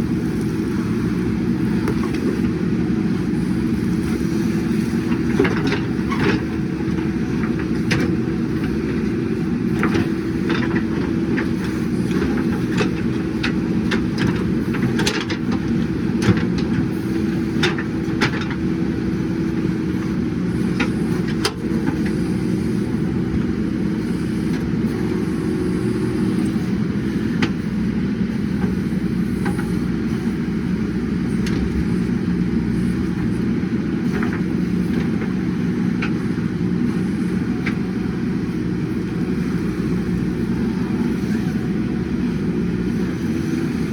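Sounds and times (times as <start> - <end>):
diesel engine running under load: 0.0 - 43.9.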